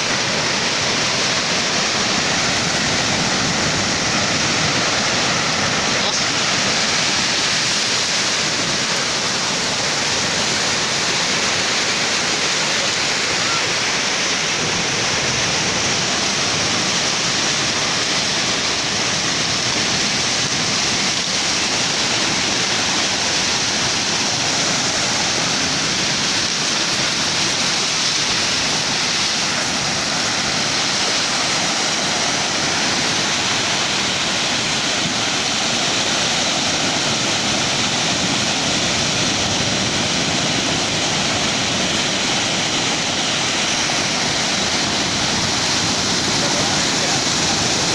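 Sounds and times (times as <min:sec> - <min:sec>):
ocean surf roaring: 0:00.0 - 0:47.9.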